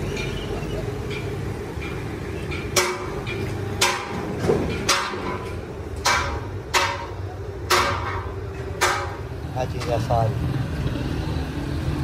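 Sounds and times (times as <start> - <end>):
sharp ringing knocks: 0.0 - 10.0.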